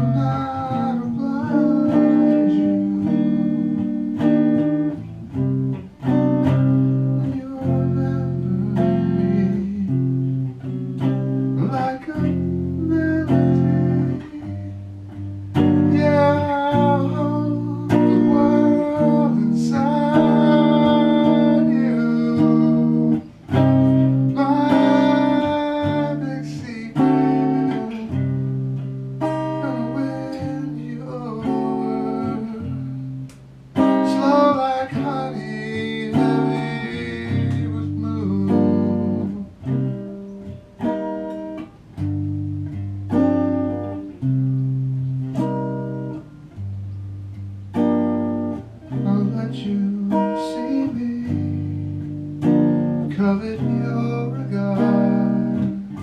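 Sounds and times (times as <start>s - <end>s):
clean electric guitar chords: 0.0s - 56.0s.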